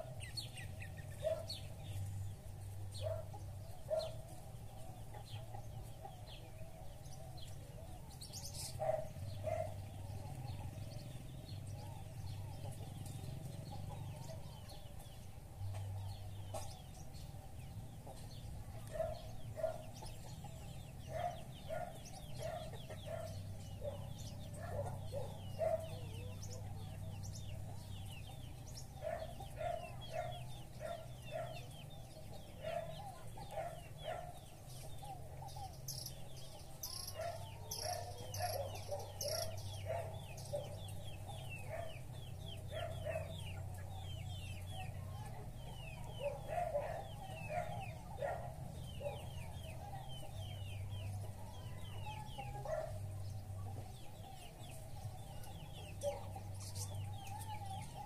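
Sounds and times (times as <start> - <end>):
chickens clucking: 0.0 - 58.0
songbirds chirping: 0.0 - 58.0.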